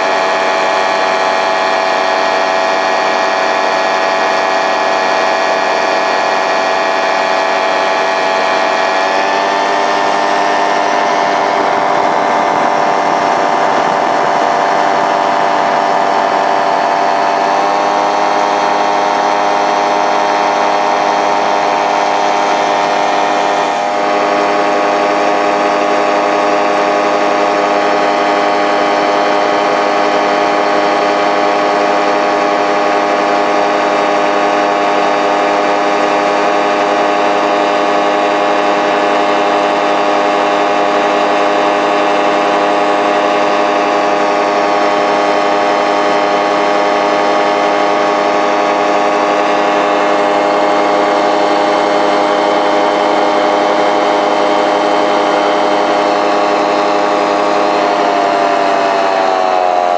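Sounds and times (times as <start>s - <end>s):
paraglider engine and propeller drone: 0.0s - 59.9s.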